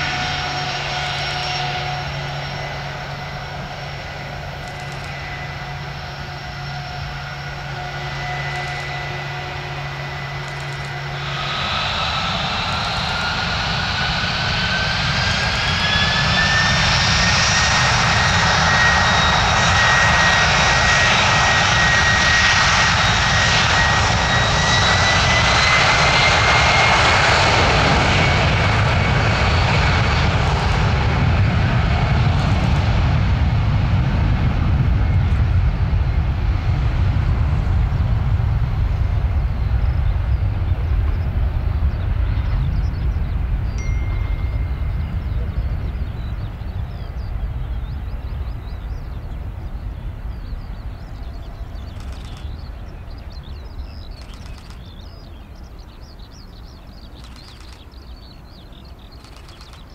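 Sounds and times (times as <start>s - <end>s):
jet engines whining and roaring: 0.0s - 59.9s.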